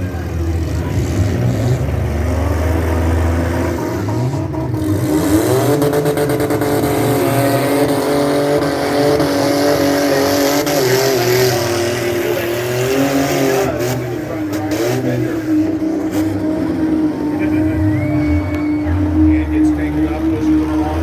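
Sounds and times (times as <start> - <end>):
car engines revving hard: 0.0 - 21.0.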